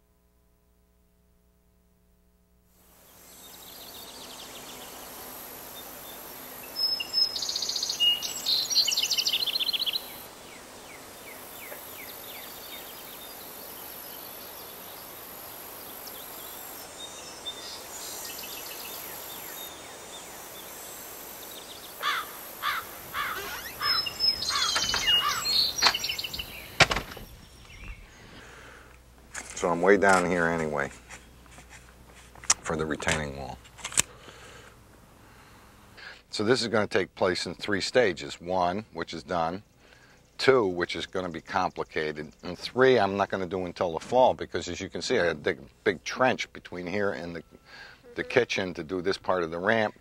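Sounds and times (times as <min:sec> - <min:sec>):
outdoor background hiss: 0:00.0 - 0:50.0
songbird chirping: 0:02.9 - 0:33.7, 0:37.4 - 0:50.0.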